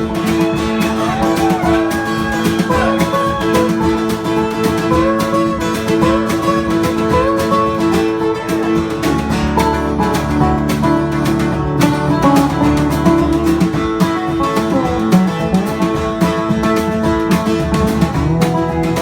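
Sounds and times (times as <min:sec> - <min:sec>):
acoustic guitars playing: 0:00.0 - 0:19.0.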